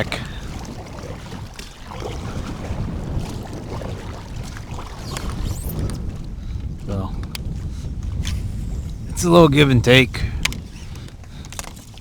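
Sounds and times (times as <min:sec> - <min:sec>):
gusty wind buffeting microphone: 0:00.0 - 0:12.0.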